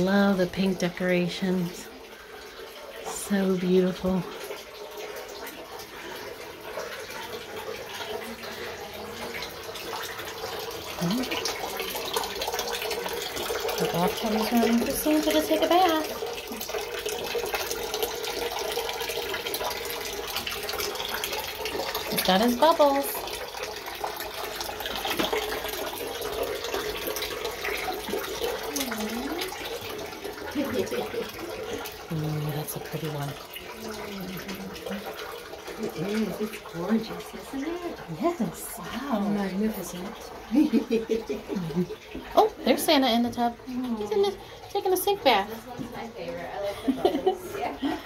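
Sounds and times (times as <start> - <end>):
water running from tap: 0.0 - 48.0.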